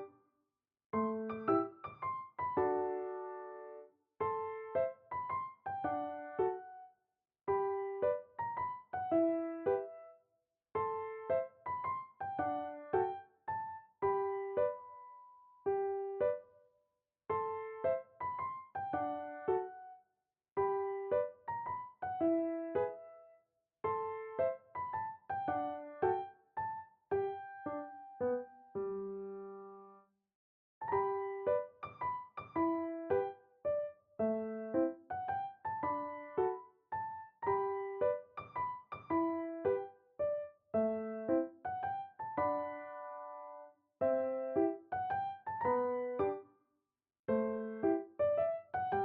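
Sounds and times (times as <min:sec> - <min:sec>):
gentle piano melody: 0:01.0 - 0:10.2, 0:10.8 - 0:16.7, 0:17.3 - 0:30.0, 0:30.8 - 0:46.5, 0:47.3 - 0:49.0.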